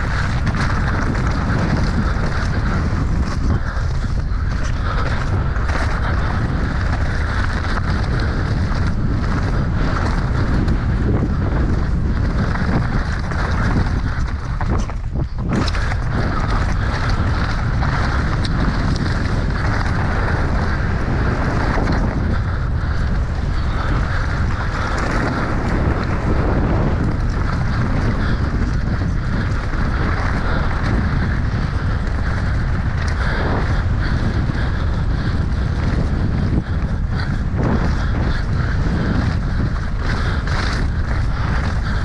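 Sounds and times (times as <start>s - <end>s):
mountain bike rattling on rough trail: 0.0s - 42.0s
wind buffeting microphone: 0.0s - 42.0s.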